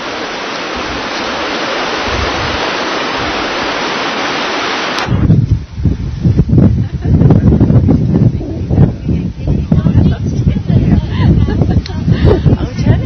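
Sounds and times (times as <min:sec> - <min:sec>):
loud steady hiss: 0:00.0 - 0:13.0
wind gusts on microphone: 0:00.0 - 0:13.0.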